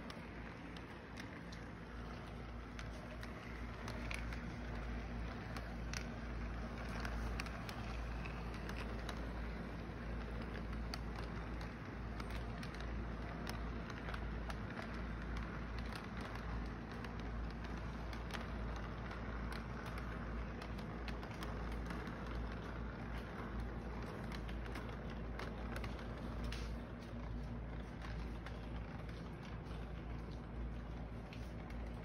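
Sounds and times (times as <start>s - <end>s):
model train rumbling: 0.0s - 32.0s.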